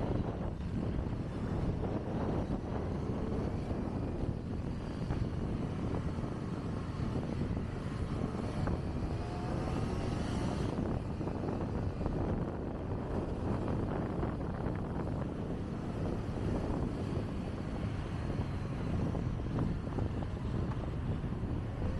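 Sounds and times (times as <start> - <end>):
faint engine whine: 0.0 - 21.9
motorcycle engine running: 0.0 - 21.9
wind on microphone: 0.0 - 21.9.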